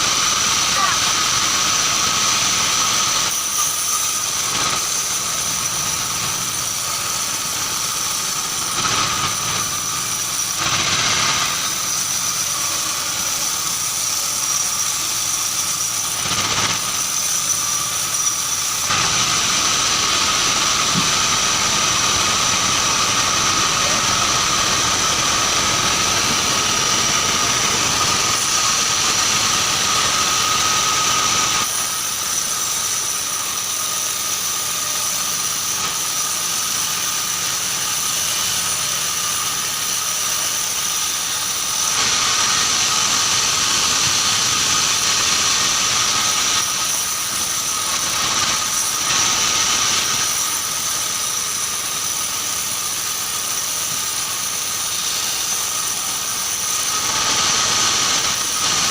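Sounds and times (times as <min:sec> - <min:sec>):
band saw whining: 0:00.0 - 0:58.9.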